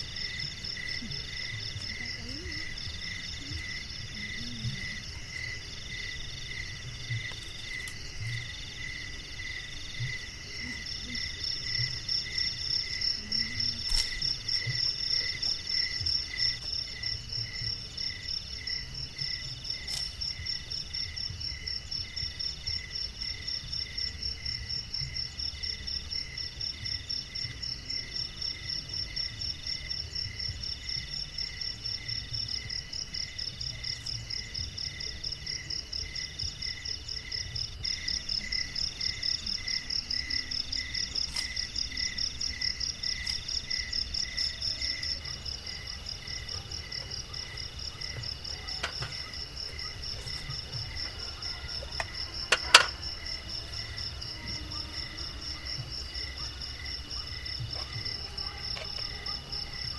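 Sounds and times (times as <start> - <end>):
insect call in bursts: 0.0 - 59.9.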